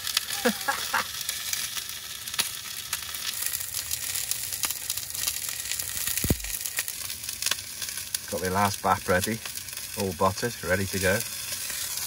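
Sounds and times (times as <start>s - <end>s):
sausages sizzling in frying pan: 0.0s - 12.0s.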